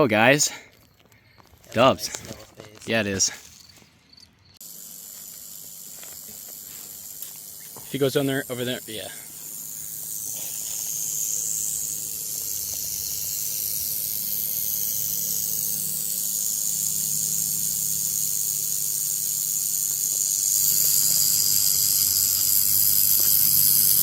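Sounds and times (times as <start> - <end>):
rattlesnake rattling: 0.4 - 24.0.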